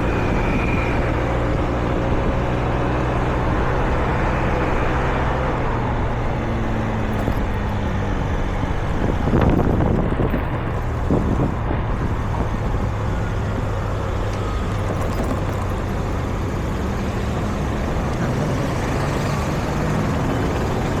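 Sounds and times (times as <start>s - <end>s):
low engine hum: 0.0s - 21.0s
passing vehicles: 0.0s - 21.0s.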